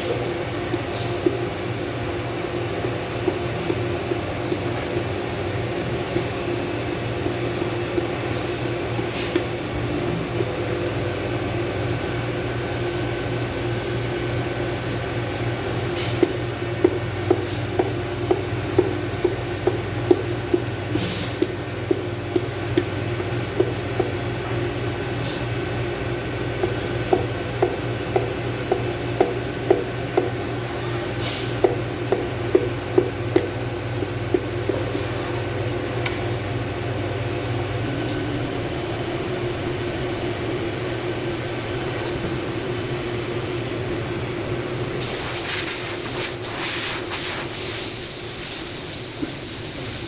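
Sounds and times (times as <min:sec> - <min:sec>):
mechanical hum with tones: 0:00.0 - 0:50.0.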